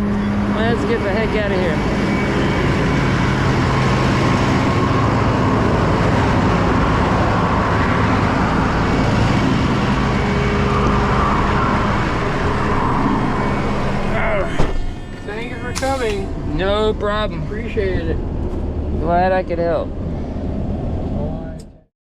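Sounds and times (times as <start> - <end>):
vehicle engine running: 0.0 - 21.6
road and traffic noise: 0.0 - 21.8.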